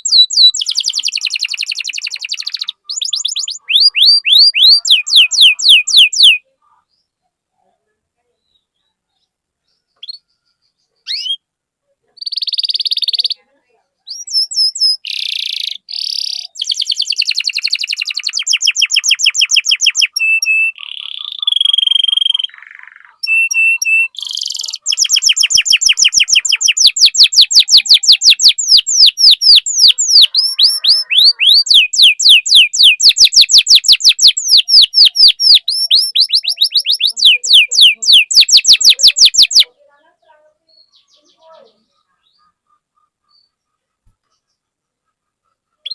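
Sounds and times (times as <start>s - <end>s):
canary singing: 0.0s - 7.2s, 8.3s - 45.9s.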